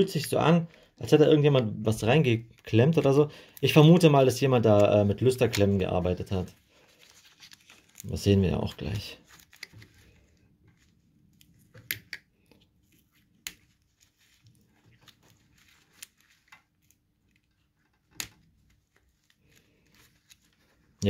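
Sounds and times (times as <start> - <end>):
tape rustling: 1.9 - 21.0.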